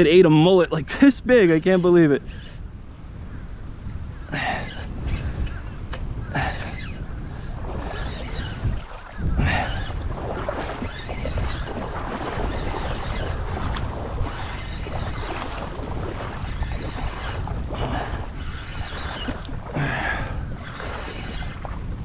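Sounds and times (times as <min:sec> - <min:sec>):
wind buffeting microphone: 0:00.0 - 0:22.0
small waves lapping: 0:02.3 - 0:22.0.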